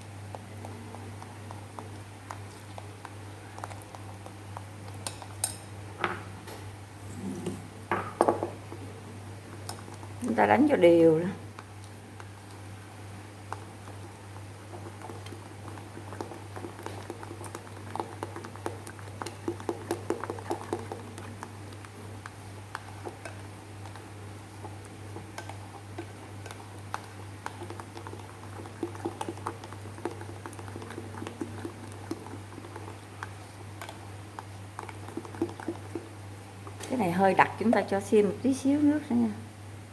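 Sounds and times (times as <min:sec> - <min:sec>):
batter squishing in bowl: 0:00.0 - 0:05.9, 0:08.6 - 0:39.1.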